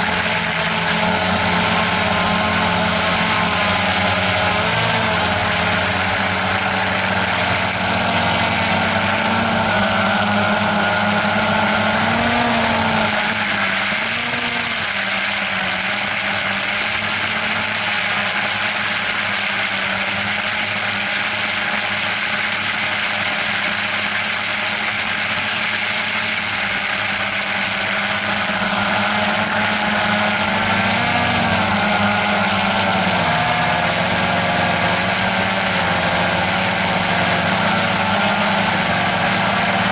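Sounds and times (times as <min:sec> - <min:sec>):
drone motors buzzing: 0:00.0 - 0:39.9
high whine: 0:00.0 - 0:39.9.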